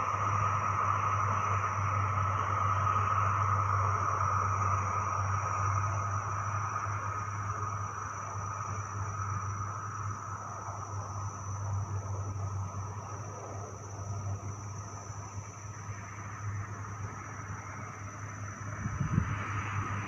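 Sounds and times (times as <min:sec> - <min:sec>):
distant turbine aircraft engine: 0:00.0 - 0:20.0.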